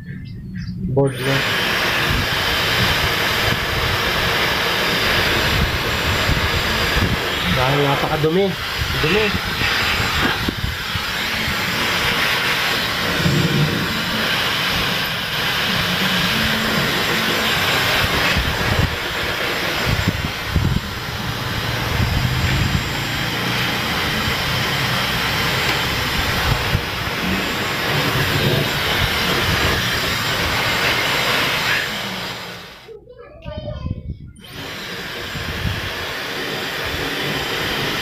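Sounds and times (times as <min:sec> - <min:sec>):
hair dryer blowing: 0:01.1 - 0:32.9, 0:34.4 - 0:38.0.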